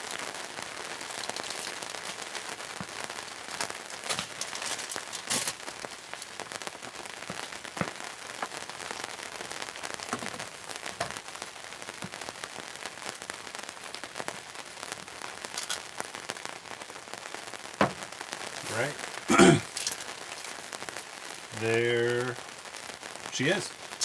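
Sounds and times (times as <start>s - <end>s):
steady rain patter: 0.0s - 24.0s.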